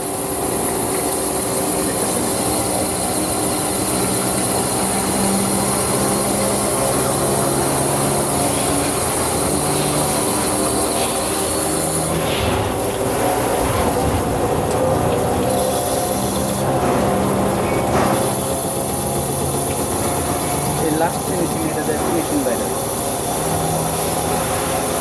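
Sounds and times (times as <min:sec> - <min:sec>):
machine drilling and cutting metal: 0:00.0 - 0:25.0
spindle hum: 0:00.0 - 0:25.0.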